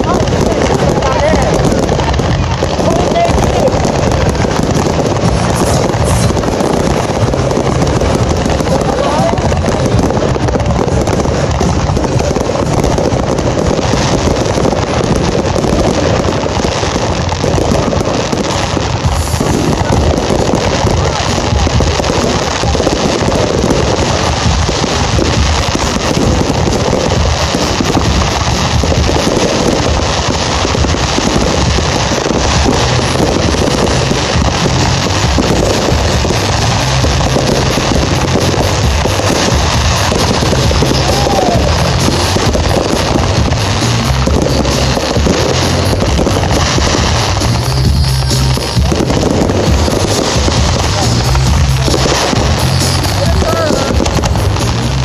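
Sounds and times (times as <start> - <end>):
fireworks banging and crackling: 0.0 - 55.0
loud music: 0.0 - 55.0.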